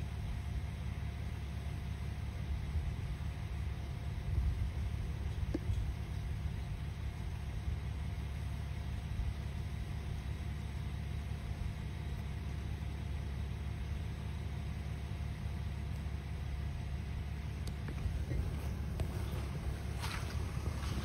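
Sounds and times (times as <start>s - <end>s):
engine idling: 0.0s - 21.0s
faint steady hum: 0.0s - 21.0s.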